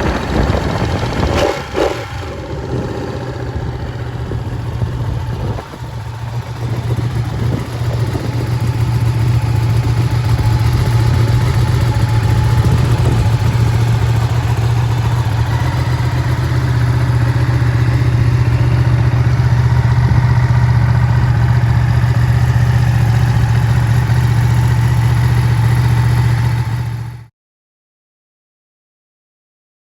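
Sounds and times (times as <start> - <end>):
motorcycle engine idling: 0.0 - 27.3.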